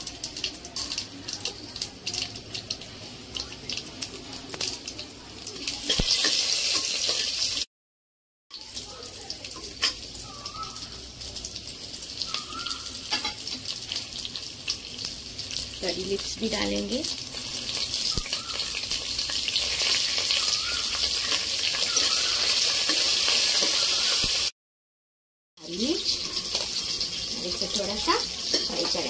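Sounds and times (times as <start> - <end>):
seeds crackling and popping: 0.0 - 7.7, 8.5 - 24.5
spices sizzling in hot oil: 0.0 - 7.7, 8.5 - 24.5, 25.6 - 29.0.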